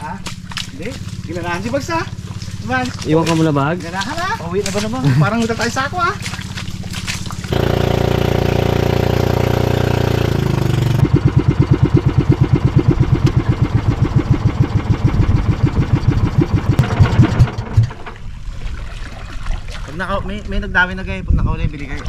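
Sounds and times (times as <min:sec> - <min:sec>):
small engine chugging: 0:00.0 - 0:18.2.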